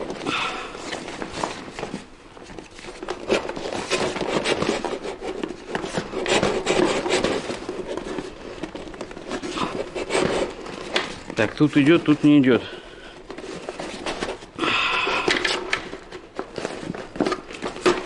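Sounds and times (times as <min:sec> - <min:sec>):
fabric rustling and scraping: 0:00.0 - 0:18.0.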